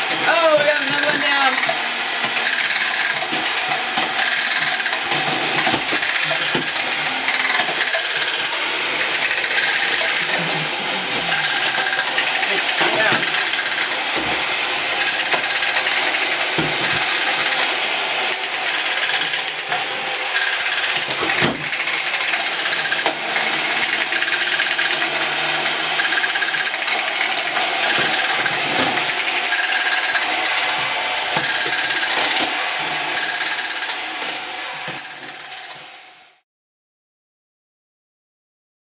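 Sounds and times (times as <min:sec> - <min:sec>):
toy robots rattling whir: 0:00.0 - 0:35.8.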